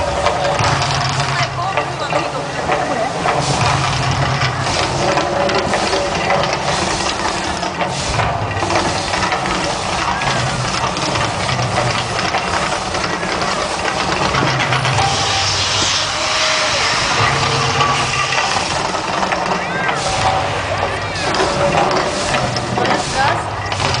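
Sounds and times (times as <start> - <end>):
loud rushing hiss: 0.0 - 24.0
low rumble: 0.0 - 24.0.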